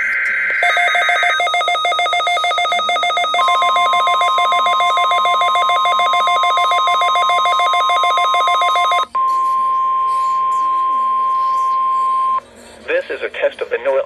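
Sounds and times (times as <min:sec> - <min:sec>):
fast electronic pulsing beep: 0:00.0 - 0:12.4
steady high alarm tone: 0:00.0 - 0:12.4.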